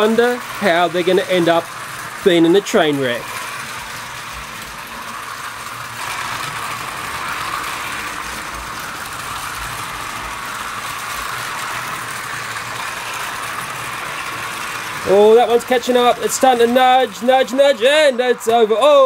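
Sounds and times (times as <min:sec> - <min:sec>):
toy train motors whirring: 0:00.0 - 0:19.0.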